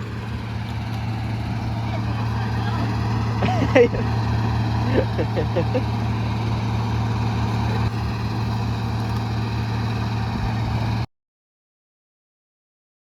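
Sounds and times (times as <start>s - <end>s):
heavy engine idling: 0.0s - 11.1s.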